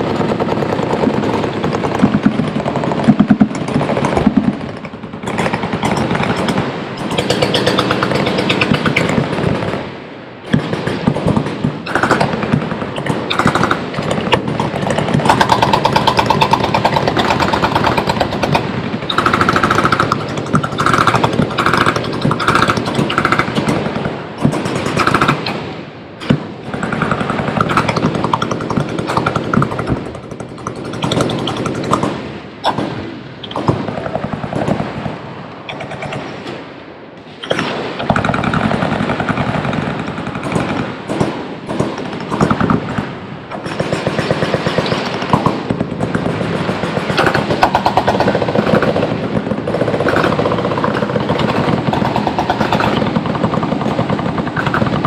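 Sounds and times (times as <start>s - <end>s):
machine guns firing full-auto: 0.0s - 9.9s, 10.5s - 36.4s, 37.5s - 55.0s.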